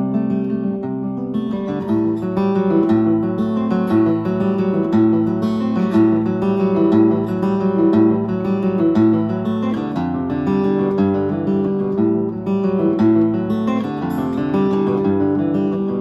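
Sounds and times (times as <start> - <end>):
fingerpicked acoustic guitar: 0.0 - 16.0.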